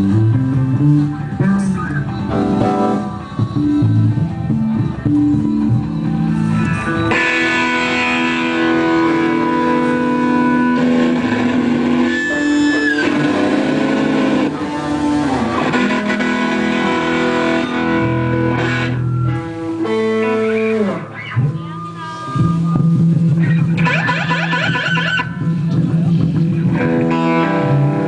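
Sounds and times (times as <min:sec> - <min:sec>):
electric guitar with effects: 0:00.0 - 0:28.0
live band music: 0:00.0 - 0:28.0.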